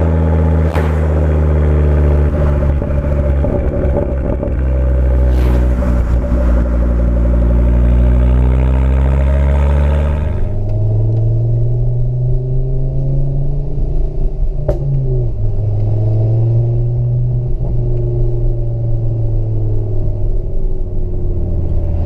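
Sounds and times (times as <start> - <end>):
car engine droning exhaust: 0.0 - 22.0.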